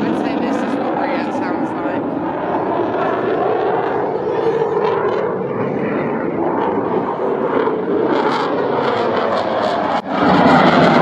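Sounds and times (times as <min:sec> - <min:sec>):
loud jet noise in flight: 0:00.0 - 0:11.0.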